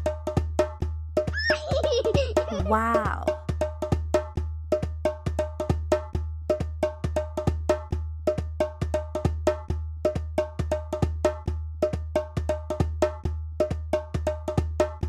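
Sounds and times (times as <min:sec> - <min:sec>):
music with bright knocking beat: 0:00.0 - 0:15.0.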